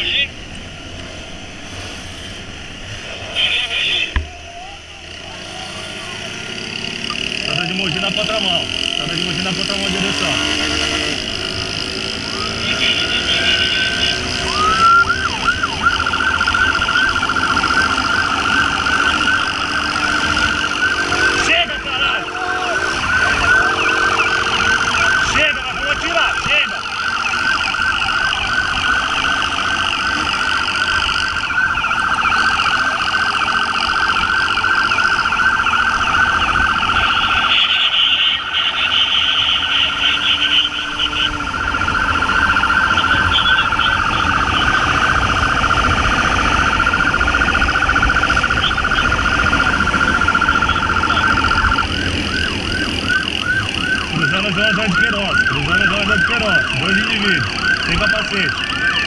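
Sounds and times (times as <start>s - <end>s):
road and wind noise: 0.0s - 59.0s
warbling police siren: 0.0s - 59.0s.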